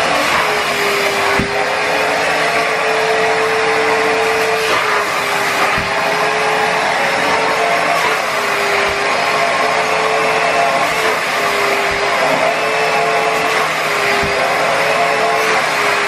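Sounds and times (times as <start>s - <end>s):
vacuum motor whining: 0.0s - 16.0s.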